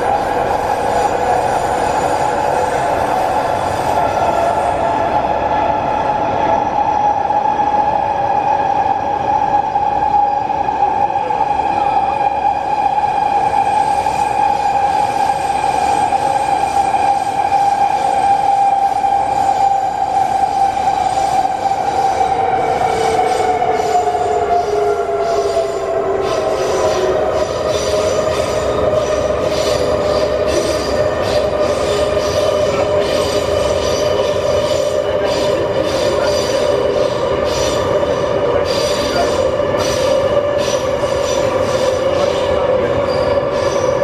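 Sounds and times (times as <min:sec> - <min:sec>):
metro train rumble: 0:00.0 - 0:44.0.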